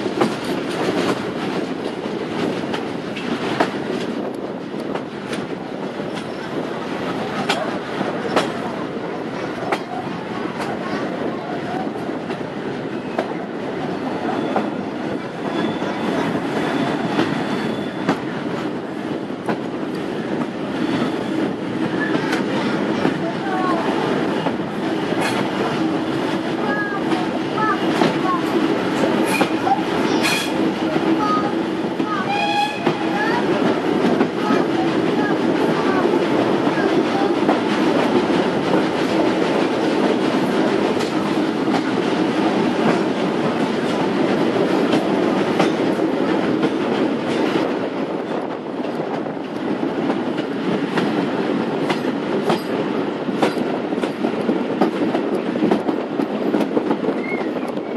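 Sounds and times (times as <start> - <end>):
train wheels rumbling: 0.0 - 57.9.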